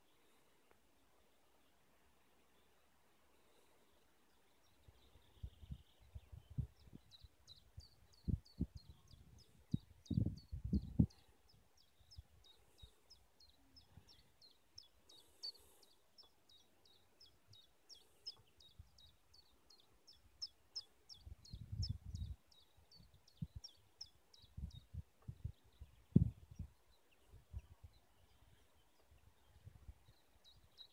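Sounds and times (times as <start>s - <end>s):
small bird chirping: 3.4s - 30.9s.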